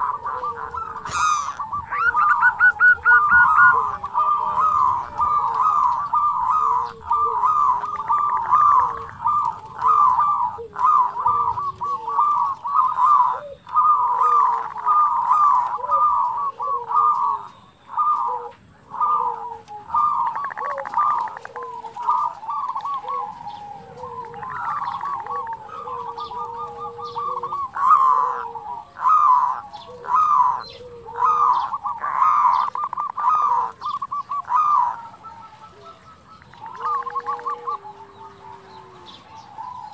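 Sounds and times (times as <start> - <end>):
doves cooing rapidly: 0.0 - 39.9
low gliding coos: 0.0 - 39.9.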